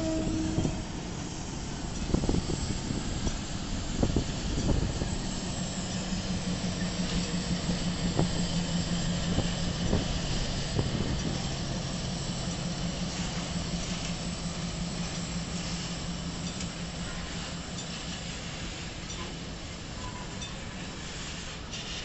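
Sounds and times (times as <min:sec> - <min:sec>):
locomotive engine drone: 0:00.0 - 0:22.0
wheels clacking over rail joints: 0:00.0 - 0:22.0.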